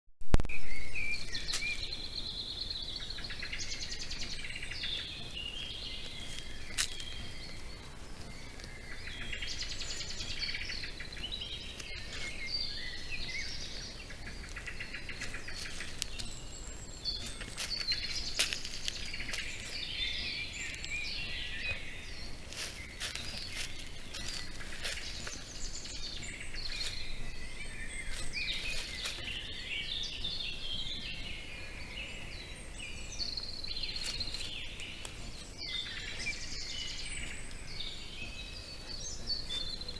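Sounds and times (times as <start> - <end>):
steady low hiss: 0.3 - 39.9
songbirds singing: 0.5 - 39.9.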